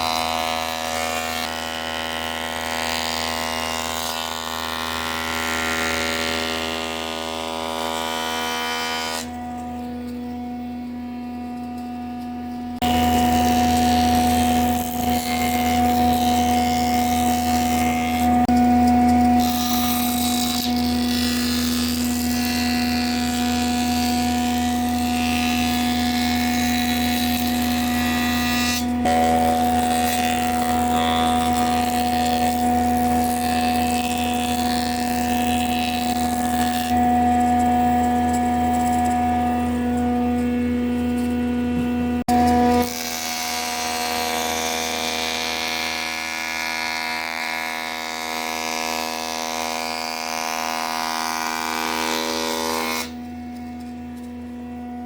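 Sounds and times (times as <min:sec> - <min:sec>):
electric power tool motor hum: 0:00.0 - 0:55.0.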